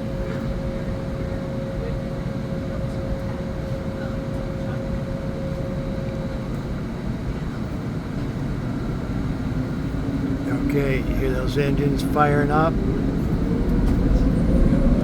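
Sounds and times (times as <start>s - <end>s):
faint steady whine: 0.0s - 15.0s
jet engines idling in cabin: 0.0s - 15.0s.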